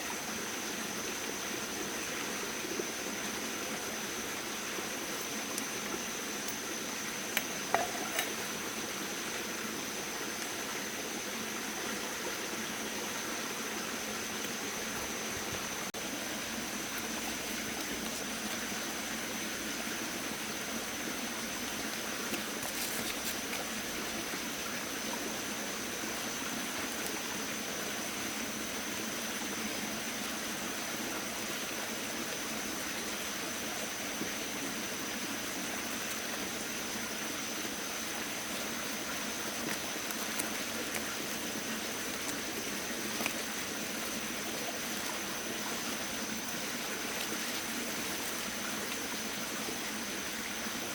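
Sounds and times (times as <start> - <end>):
rushing water: 0.0 - 50.9.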